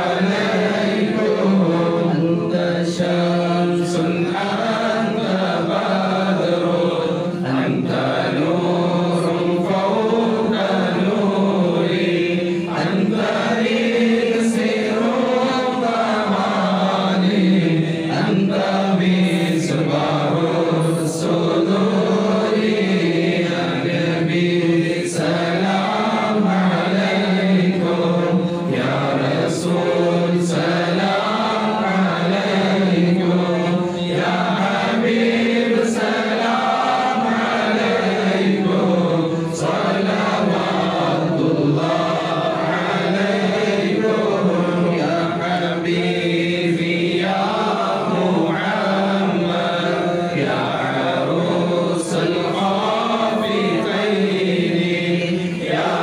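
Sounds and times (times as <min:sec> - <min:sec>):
men chanting a devotional song: 0:00.0 - 0:56.0.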